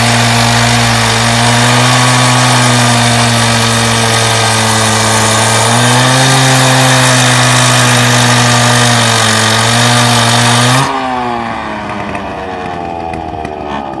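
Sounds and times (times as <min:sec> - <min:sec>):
cut-off saw engine: 0:00.0 - 0:14.0.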